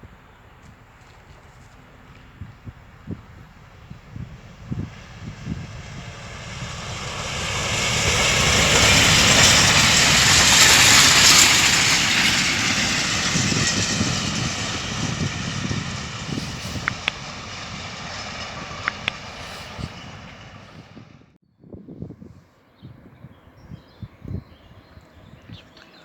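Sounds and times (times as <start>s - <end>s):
train passing by: 0.0s - 21.4s.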